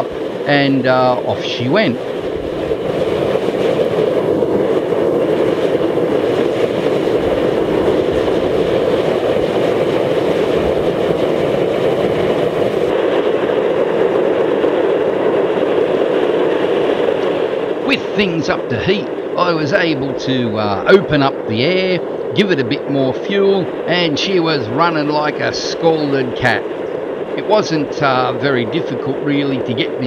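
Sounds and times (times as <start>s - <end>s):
burner flame rushing: 0.0s - 30.0s.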